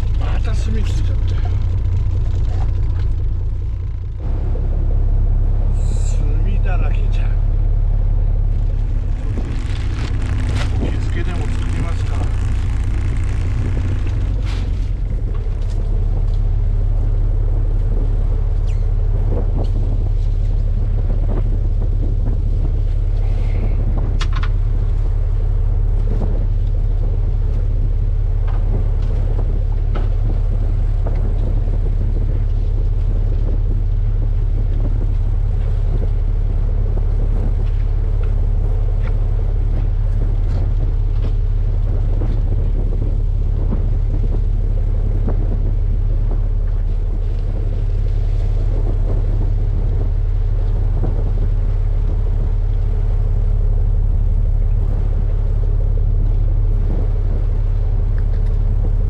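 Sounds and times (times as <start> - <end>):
boat engine rumbling: 0.0 - 59.0.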